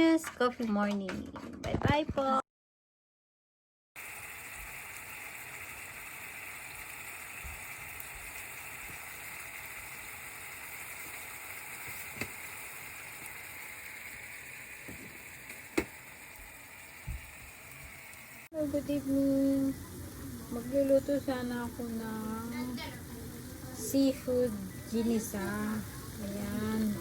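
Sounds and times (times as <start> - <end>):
food sizzling in a frying pan: 4.0 - 27.0.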